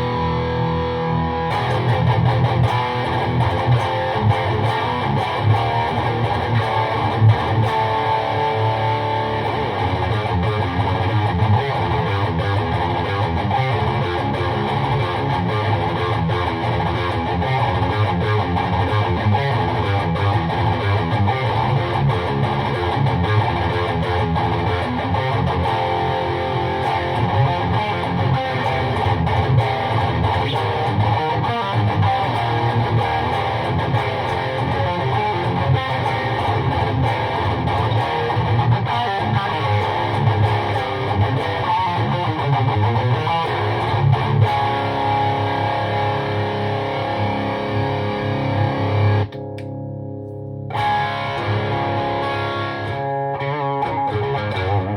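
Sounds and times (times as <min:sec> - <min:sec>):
electric guitar through amp: 0:00.0 - 0:54.9.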